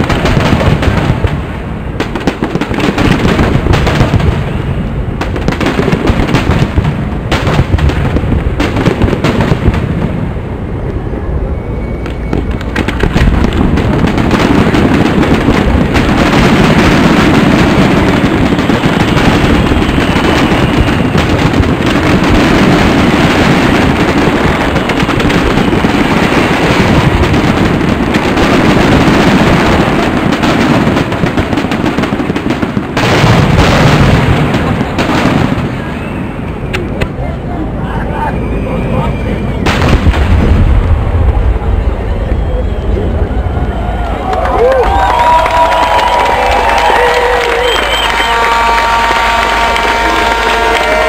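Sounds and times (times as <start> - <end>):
fireworks bursts and crackle: 0.0 - 51.0.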